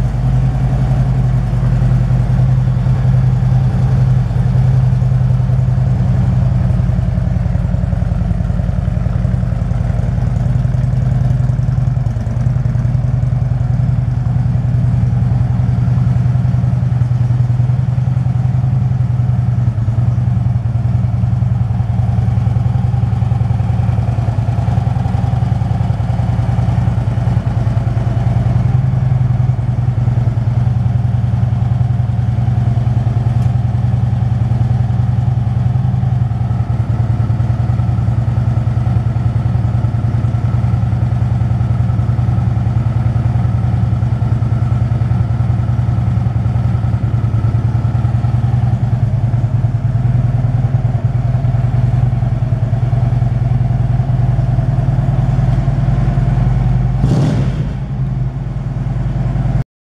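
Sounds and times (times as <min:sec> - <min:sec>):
motorcycle engine idling: 0:00.0 - 0:59.6.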